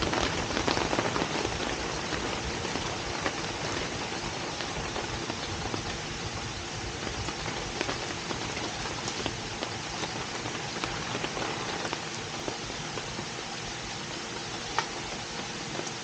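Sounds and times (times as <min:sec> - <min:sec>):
raindrops ticking on a surface: 0:00.0 - 0:16.0
steady rain: 0:00.0 - 0:16.0.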